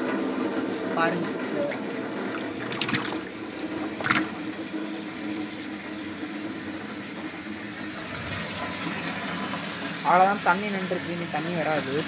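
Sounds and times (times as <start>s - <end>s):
hose water pouring into tub: 1.0s - 12.0s.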